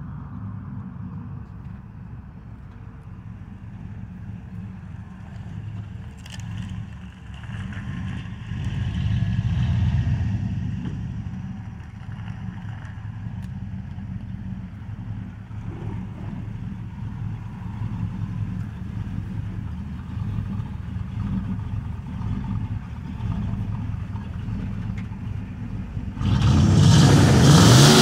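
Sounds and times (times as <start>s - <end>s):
pickup truck exhaust rumble: 0.0s - 28.0s.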